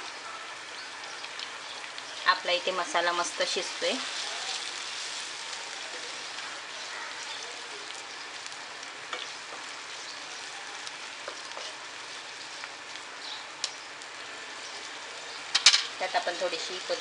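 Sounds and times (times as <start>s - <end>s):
paste sizzling in oil: 0.6s - 17.0s.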